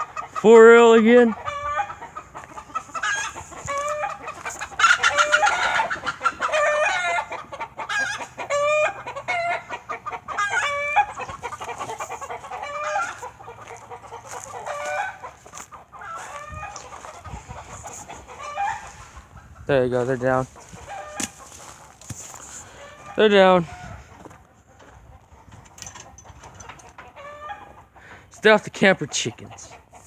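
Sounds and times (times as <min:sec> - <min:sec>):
chickens clucking and squawking: 0:00.0 - 0:30.0.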